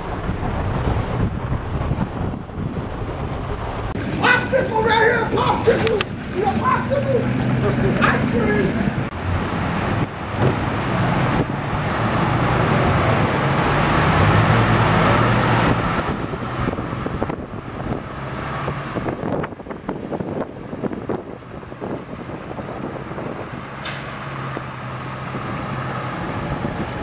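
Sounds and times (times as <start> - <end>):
road noise: 0.0 - 27.0.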